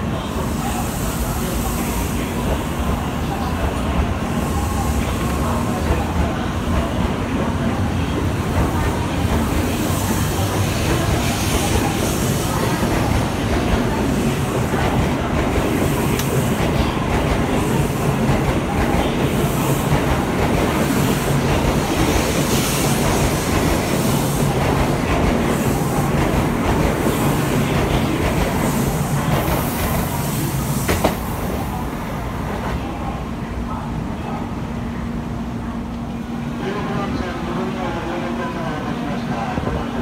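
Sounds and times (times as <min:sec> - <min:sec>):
train wheels rumbling with rail clatter: 0:00.0 - 0:34.4.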